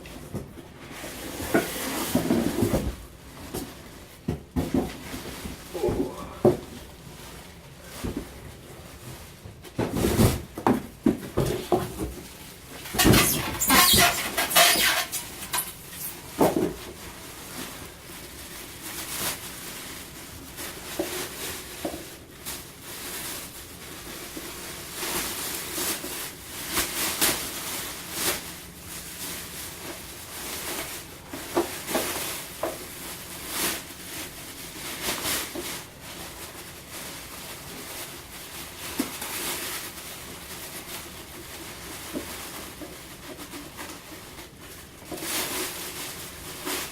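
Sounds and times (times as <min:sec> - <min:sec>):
packaging rustling and scraping: 0:00.2 - 0:46.9.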